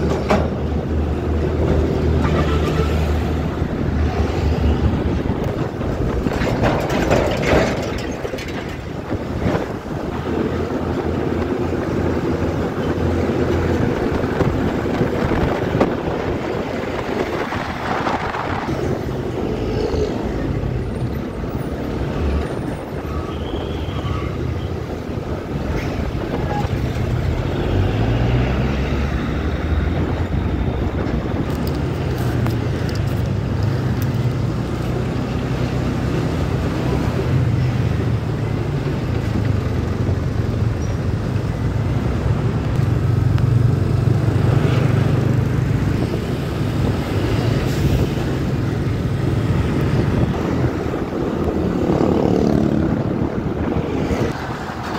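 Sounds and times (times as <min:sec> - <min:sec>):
road and traffic noise: 0:00.0 - 0:54.9.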